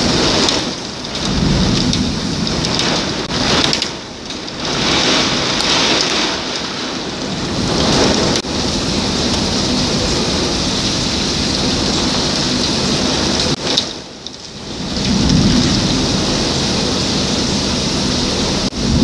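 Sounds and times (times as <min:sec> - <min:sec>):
heavy rain pouring: 0:00.0 - 0:19.0
thunder rumbling: 0:00.0 - 0:19.0.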